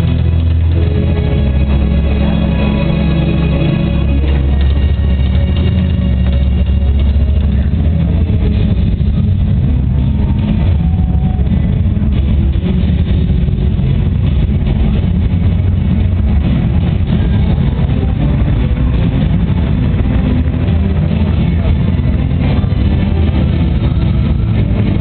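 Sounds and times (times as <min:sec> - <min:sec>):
indoor arena rumble: 0:00.0 - 0:25.0.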